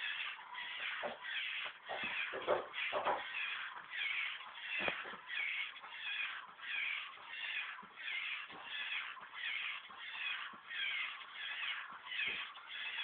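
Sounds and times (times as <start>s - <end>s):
servo motors whirring: 0.0s - 13.0s.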